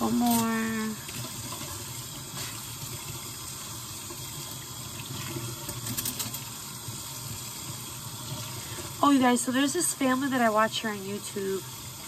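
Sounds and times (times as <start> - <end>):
sink tap running: 0.0 - 12.0.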